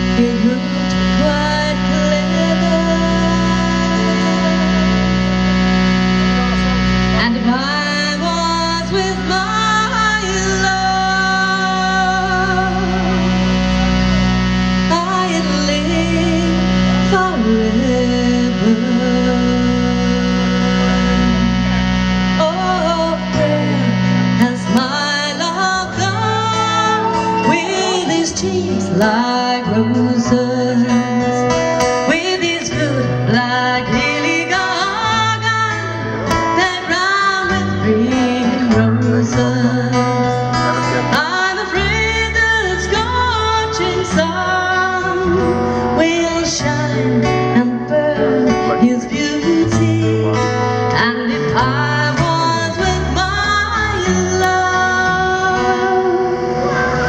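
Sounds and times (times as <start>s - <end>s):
woman singing: 0.0s - 5.6s, 7.1s - 57.0s
strummed acoustic guitar: 0.0s - 57.0s.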